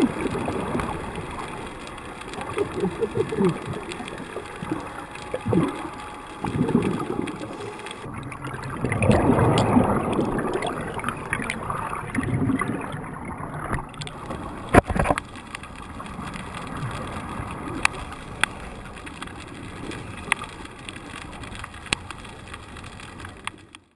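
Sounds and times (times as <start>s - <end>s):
faint clicks: 0.0s - 12.8s, 13.6s - 23.9s
underwater regulator bubbles: 0.0s - 22.0s
water rushing underwater: 0.0s - 23.8s.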